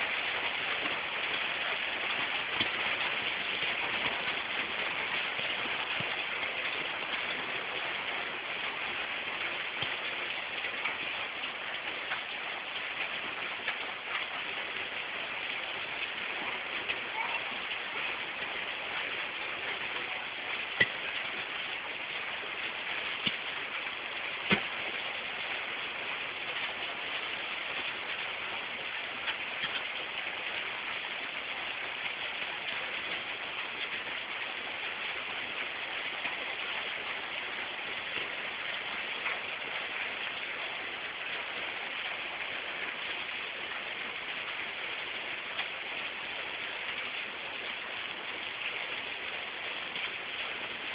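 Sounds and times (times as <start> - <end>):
hailstones clicking on hard surfaces: 0.0 - 50.9
rain and hail hissing: 0.0 - 50.9.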